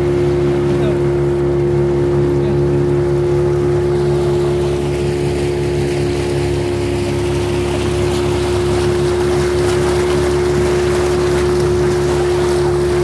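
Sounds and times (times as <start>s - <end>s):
motor boat engine running: 0.0s - 13.0s
water rushing past hull: 0.0s - 13.0s.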